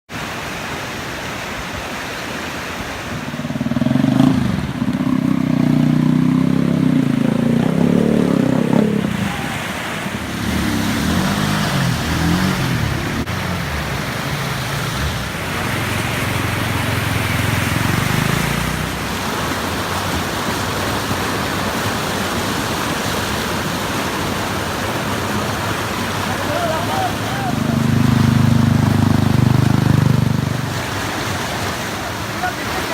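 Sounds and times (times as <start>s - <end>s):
steady rushing noise: 0.1s - 32.9s
vehicle engines passing: 3.0s - 32.9s.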